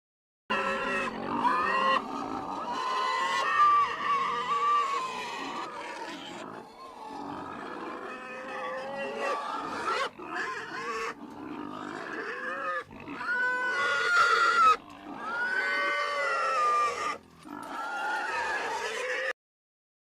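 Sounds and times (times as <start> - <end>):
pig squealing: 0.5 - 19.4.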